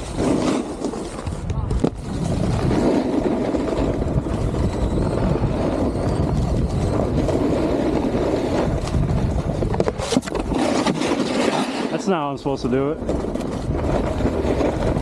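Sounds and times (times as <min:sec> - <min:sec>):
wind buffeting microphone: 0:00.0 - 0:11.3, 0:11.9 - 0:15.0
snowboard sliding over snow: 0:00.0 - 0:15.0.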